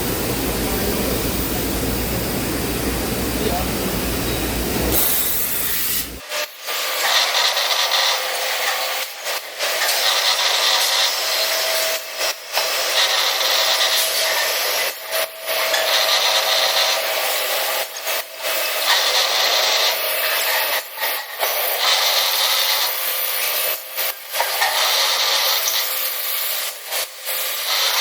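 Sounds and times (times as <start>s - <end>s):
drill grinding into metal: 0.0s - 28.0s.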